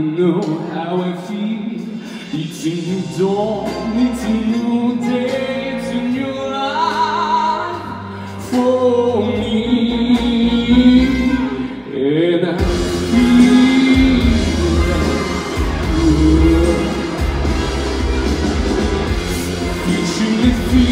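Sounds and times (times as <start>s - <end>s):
band playing pop song: 0.0s - 20.9s
person singing: 0.0s - 20.9s
heavy bass: 2.3s - 20.9s.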